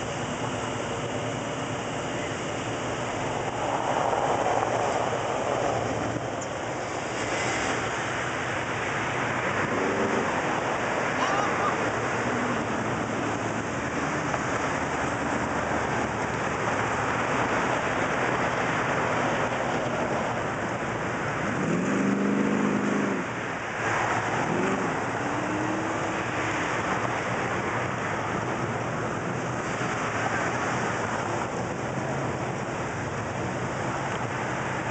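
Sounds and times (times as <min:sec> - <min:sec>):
street traffic rush: 0:00.0 - 0:34.9.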